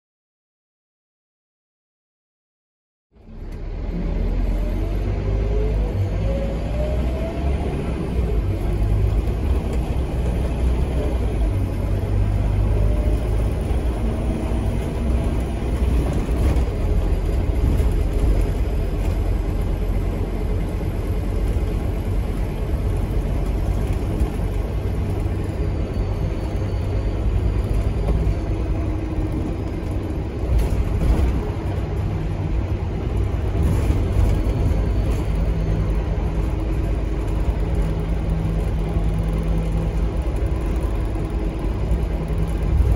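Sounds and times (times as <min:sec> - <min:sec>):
bus engine rumble: 0:03.1 - 0:42.9
road noise: 0:03.1 - 0:42.9.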